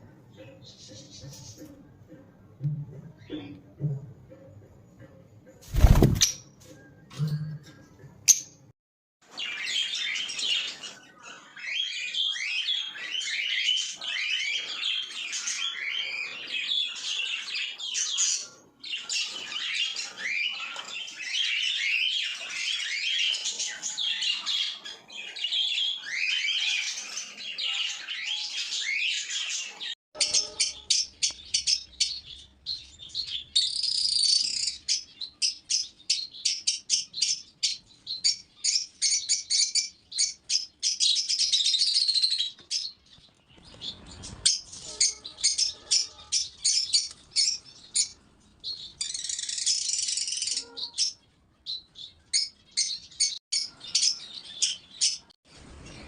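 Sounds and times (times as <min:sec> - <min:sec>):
parrots chirping and chattering: 0:09.3 - 0:56.0.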